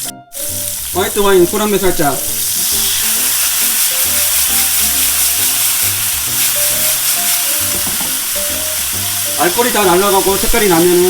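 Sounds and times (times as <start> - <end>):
asparagus sizzling in a pan: 0.0 - 11.0
quiet background music: 0.0 - 11.0.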